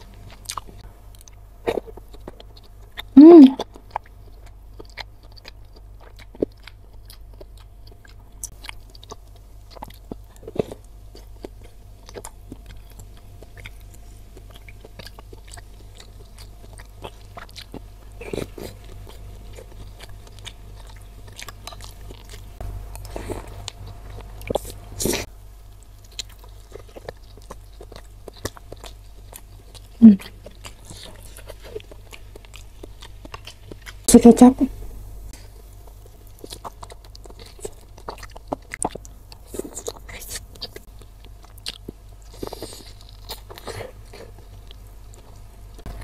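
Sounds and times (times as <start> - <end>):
close chewing mouth sounds: 0.0 - 34.5, 35.3 - 46.0.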